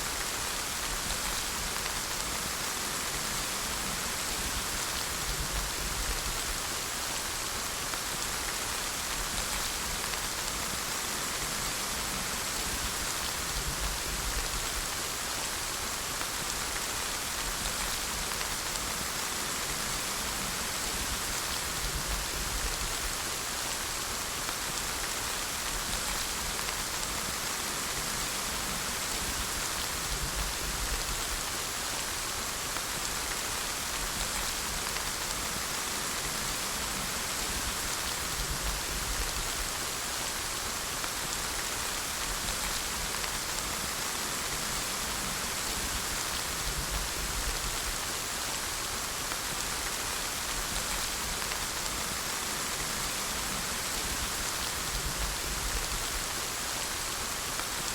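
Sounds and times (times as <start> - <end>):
rain pattering on a surface: 0.0 - 57.9.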